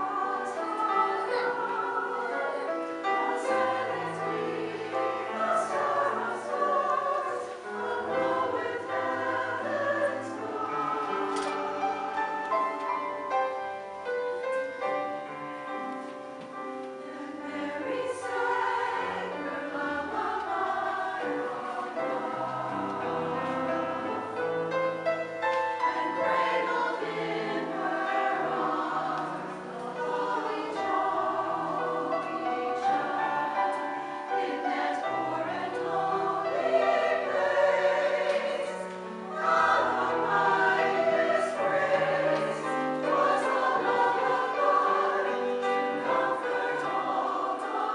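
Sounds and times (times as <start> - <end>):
choir singing in harmony: 0.0 - 47.9.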